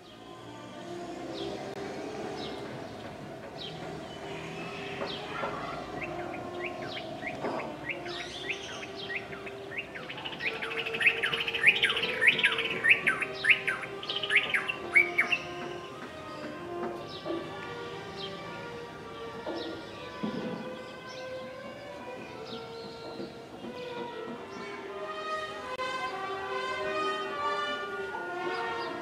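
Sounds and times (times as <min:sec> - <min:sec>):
small birds chirping: 0:00.0 - 0:24.7.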